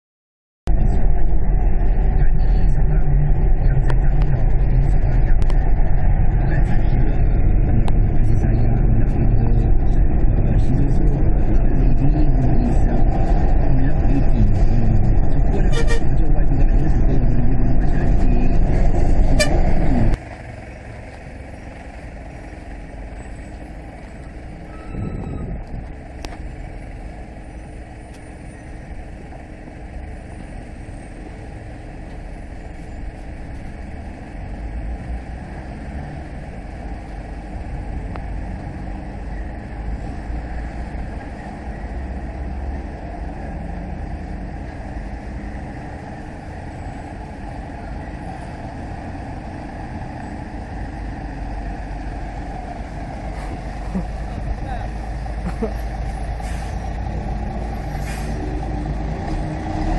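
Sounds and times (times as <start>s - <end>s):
heavy diesel truck passing: 0.7s - 59.9s
heavy truck engine at low speed: 0.7s - 59.9s.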